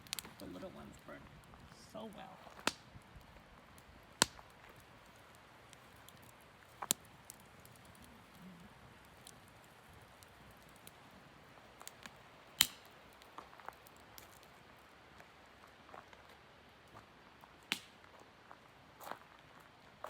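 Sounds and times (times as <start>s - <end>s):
faint fire ticks: 0.0s - 18.6s
campfire wood popping: 0.0s - 20.0s.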